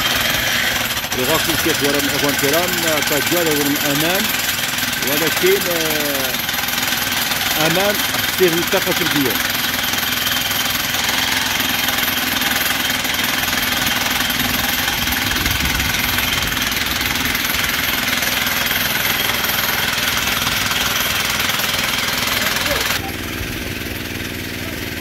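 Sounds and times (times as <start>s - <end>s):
jackhammer breaking rock: 0.0s - 23.0s
motor running: 0.0s - 25.0s.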